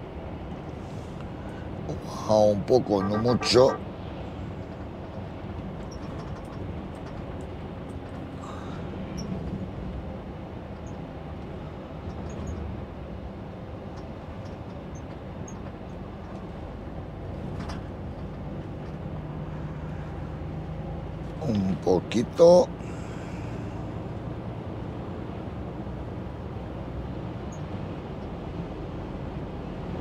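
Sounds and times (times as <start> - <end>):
road noise: 0.0 - 30.0
truck engine drone: 0.0 - 30.0.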